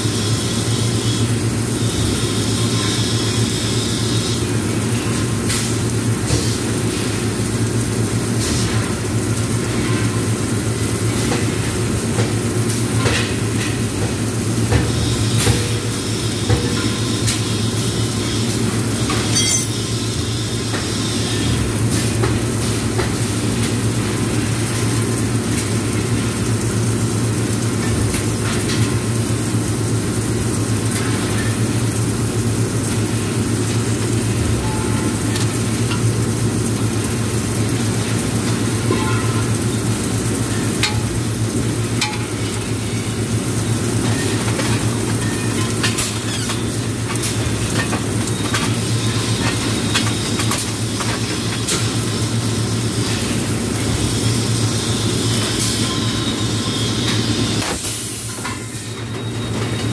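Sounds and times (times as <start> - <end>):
welder electrical hum: 0.0 - 59.9
welding crackle and sizzle: 0.0 - 59.9.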